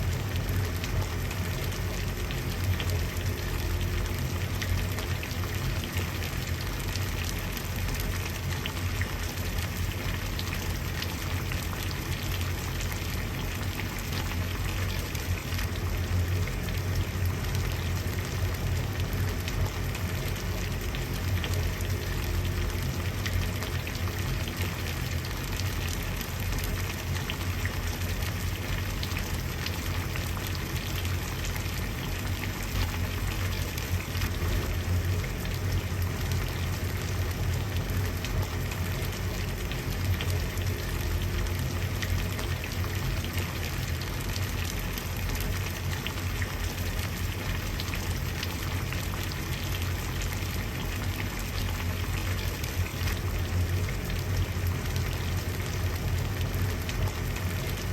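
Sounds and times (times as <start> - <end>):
water boiling and bubbling: 0.0 - 57.9.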